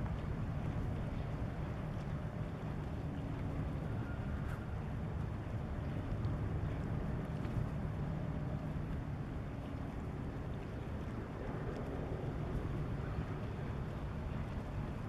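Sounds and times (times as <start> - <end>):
harbour background noise: 0.0 - 15.0
wind rumble on microphone: 0.0 - 15.0.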